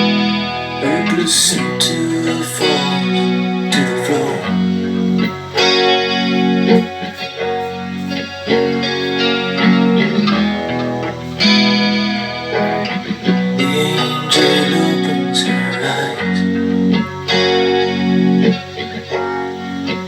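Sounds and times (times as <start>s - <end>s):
electric guitar chords: 0.0s - 20.0s.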